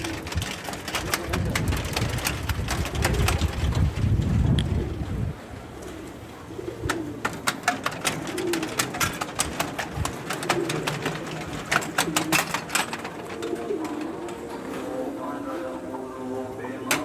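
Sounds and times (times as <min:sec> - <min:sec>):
metal prayer wheels clattering: 0:00.0 - 0:04.5, 0:07.0 - 0:17.0
pigeons cooing: 0:00.0 - 0:17.0.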